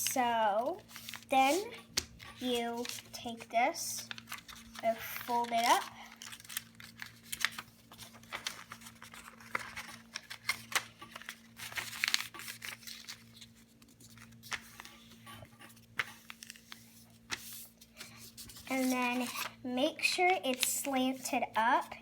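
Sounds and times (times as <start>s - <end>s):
paper crinkling and folding: 0.0s - 22.0s.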